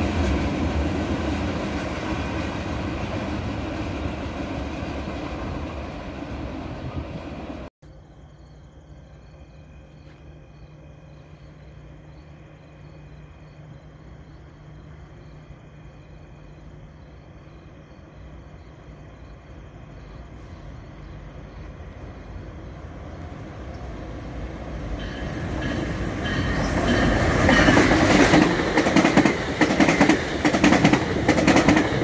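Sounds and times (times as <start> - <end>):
approaching train: 0.0 - 32.0
crickets chirping: 0.0 - 32.0.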